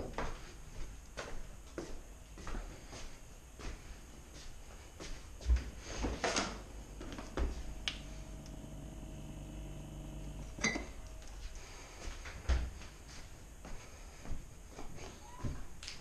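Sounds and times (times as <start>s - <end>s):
steady hum: 2.0s - 14.9s.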